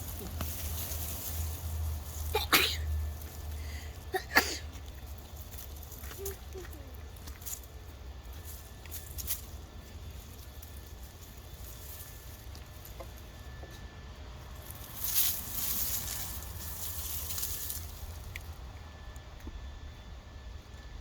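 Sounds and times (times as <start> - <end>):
hands rummaging through soil: 0.0 - 18.8.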